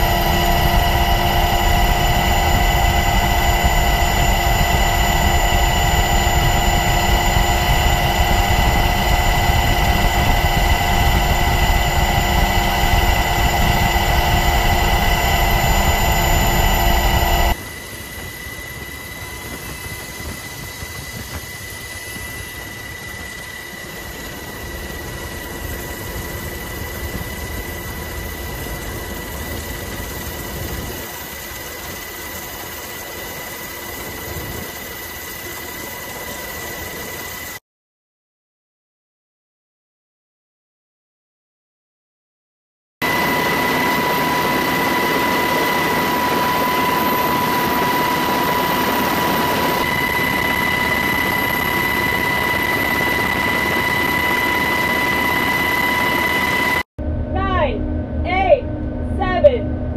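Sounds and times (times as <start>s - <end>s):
aircraft engine rumble and whine: 0.0s - 37.6s, 43.0s - 59.9s.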